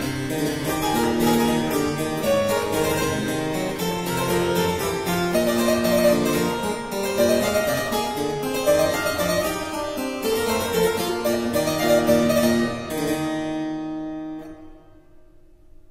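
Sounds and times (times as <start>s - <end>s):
plucked instrumental music: 0.0s - 15.5s.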